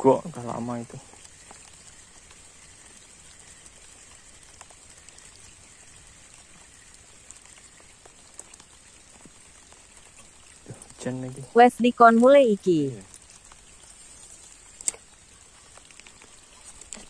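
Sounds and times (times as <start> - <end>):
light rain on pond: 0.0 - 17.0.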